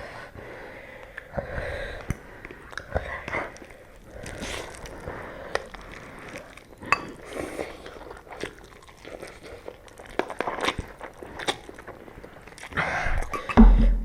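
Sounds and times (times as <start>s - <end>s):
chewing noodles: 0.6s - 13.6s.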